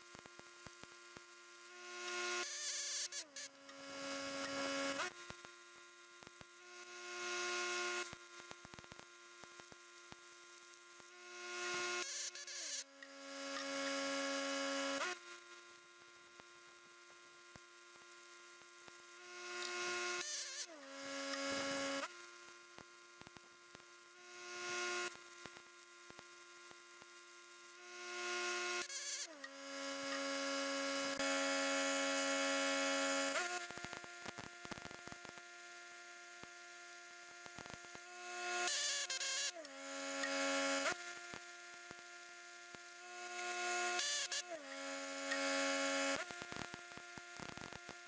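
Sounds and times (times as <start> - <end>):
welding arc crackling: 0.0 - 48.0
welding machine hum: 0.0 - 48.0.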